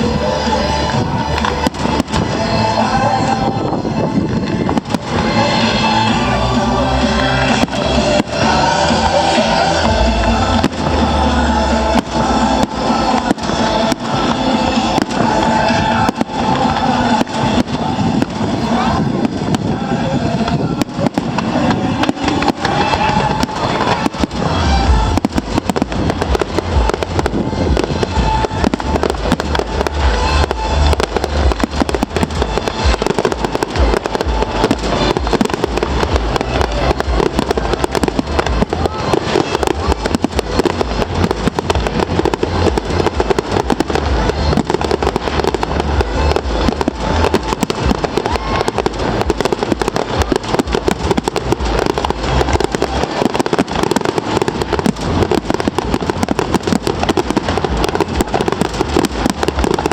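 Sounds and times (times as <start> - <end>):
deep fireworks booms: 0.0 - 59.9
fireworks bangs and crackles: 0.0 - 59.9.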